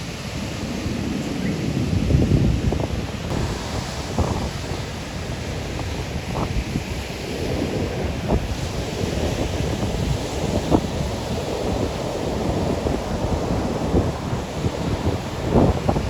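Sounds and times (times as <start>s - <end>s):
ocean surf washing on beach: 0.0s - 16.0s
wind rumbling on microphone: 0.0s - 16.0s.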